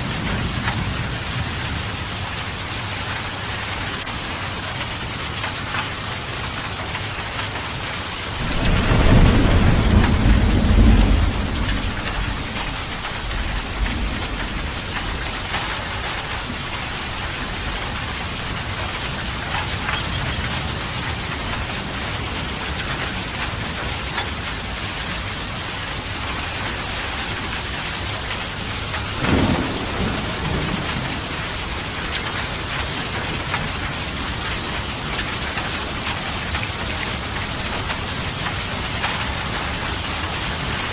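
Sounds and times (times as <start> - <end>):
thunder rumbling: 0.0 - 3.3, 8.3 - 40.9
heavy rain: 0.0 - 40.9.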